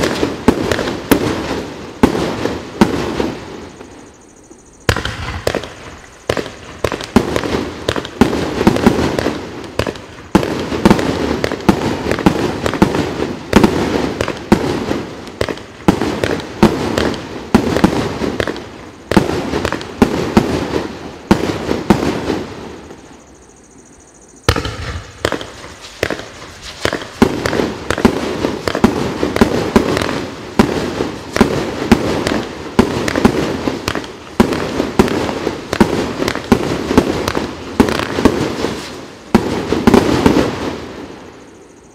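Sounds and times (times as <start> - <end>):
fireworks launch bangs: 0.0 - 4.0, 4.8 - 23.1, 24.4 - 41.4
fireworks bursting pops: 0.0 - 4.2, 4.8 - 23.2, 24.4 - 41.2
fireworks crackling: 0.0 - 4.2, 4.8 - 23.3, 24.4 - 41.5.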